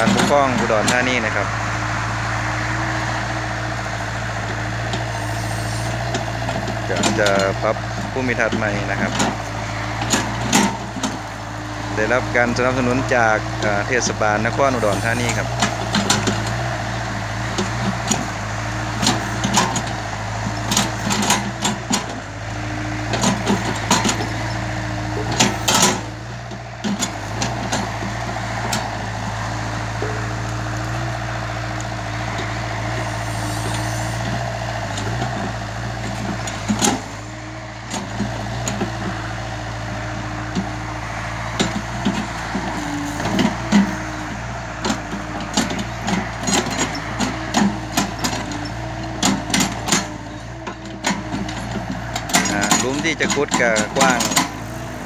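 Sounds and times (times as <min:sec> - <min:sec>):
excavator diesel engine: 0:00.0 - 0:55.0
hydraulic hum: 0:00.0 - 0:55.0.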